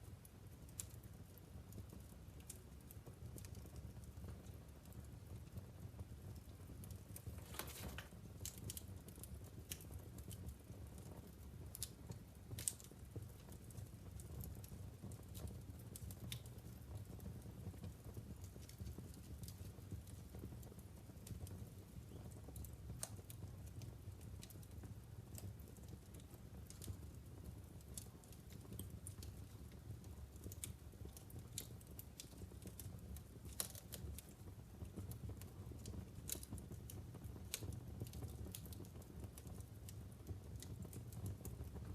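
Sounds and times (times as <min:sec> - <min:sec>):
logs crackling and popping: 0:00.0 - 0:41.9
low rumble of flames: 0:00.0 - 0:41.9.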